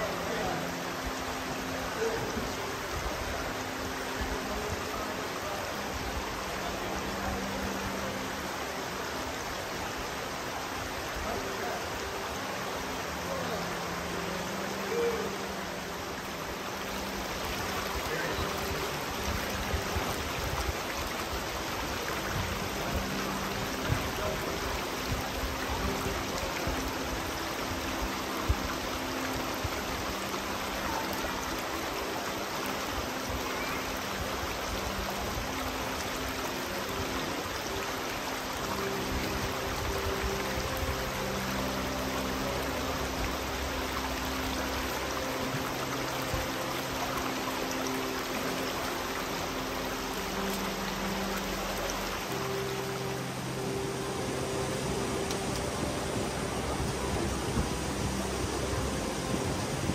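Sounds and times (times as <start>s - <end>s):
flowing stream water: 0.0s - 59.9s.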